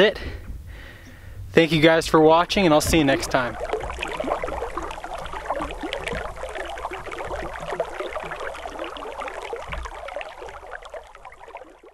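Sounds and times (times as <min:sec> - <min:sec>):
creek water babbling: 0:00.8 - 0:11.9.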